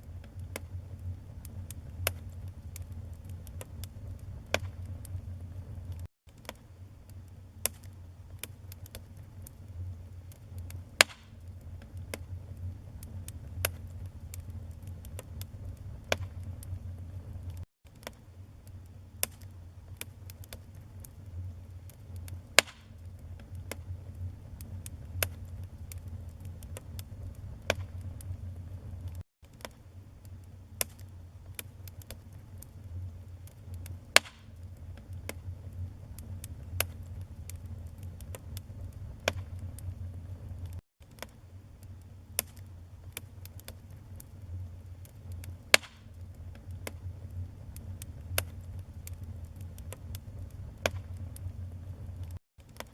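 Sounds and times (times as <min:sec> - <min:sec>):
fire pops and snaps: 0:00.0 - 0:52.9
low rumble of burning logs: 0:00.0 - 0:52.9.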